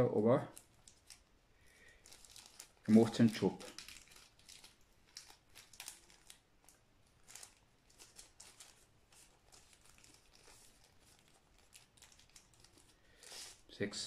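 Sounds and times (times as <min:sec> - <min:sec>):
plastic bag crinkling: 0:00.4 - 0:13.7.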